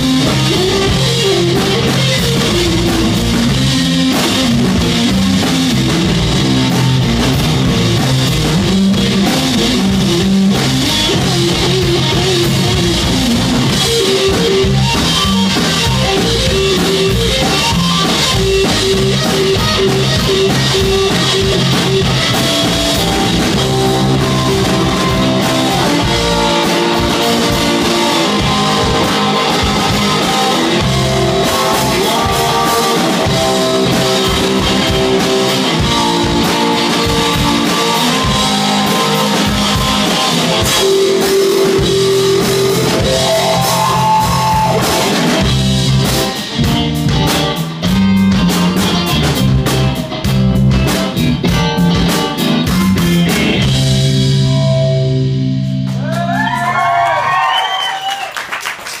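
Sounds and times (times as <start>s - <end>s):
hard-hit drumming: 0.0s - 57.2s
live rock band playing: 0.0s - 59.0s.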